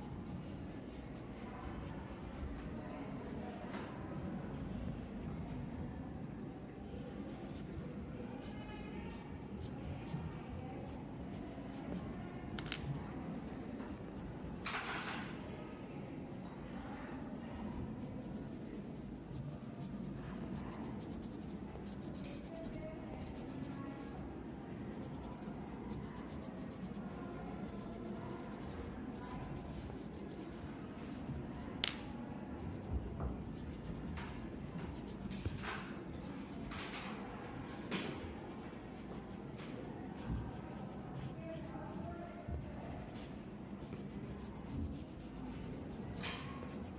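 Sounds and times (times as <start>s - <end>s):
pencil scratching on paper: 0.0s - 3.4s, 4.9s - 46.9s.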